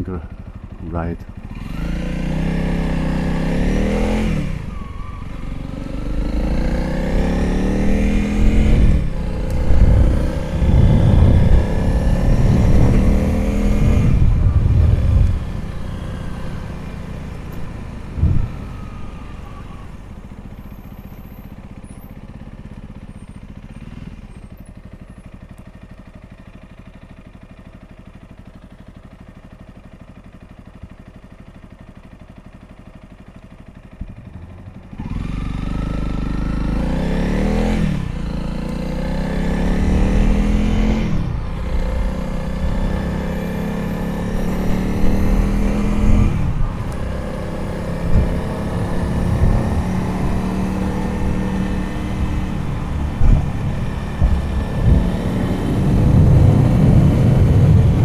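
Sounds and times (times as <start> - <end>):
motorcycle engine accelerating and idling: 0.0 - 58.0.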